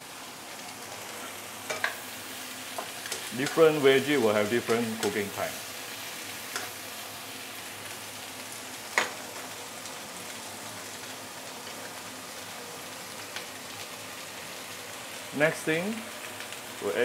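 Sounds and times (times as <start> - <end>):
cabbage frying in oil: 0.0 - 17.0.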